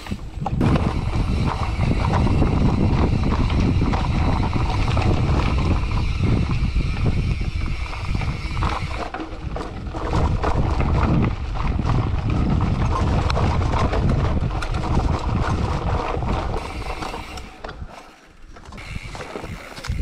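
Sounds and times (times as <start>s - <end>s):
wind on microphone: 0.0s - 18.0s, 18.7s - 20.0s
bicycle rattling over rough trail: 0.0s - 20.0s.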